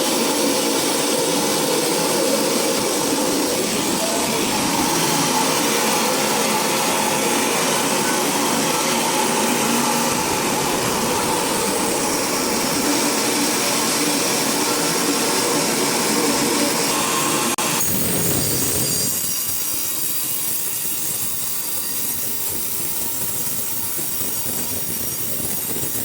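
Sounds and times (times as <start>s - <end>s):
sawmill saw running: 0.0s - 26.0s.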